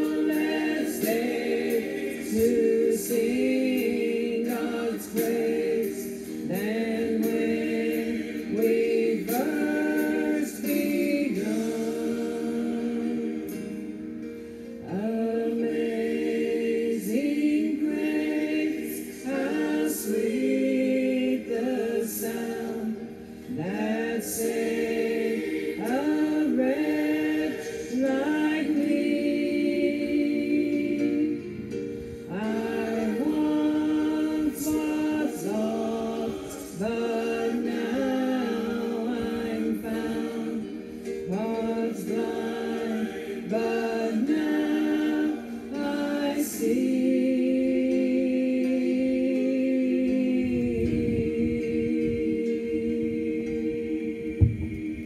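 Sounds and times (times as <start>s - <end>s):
woman singing a hymn: 0.0s - 14.0s, 14.8s - 55.0s.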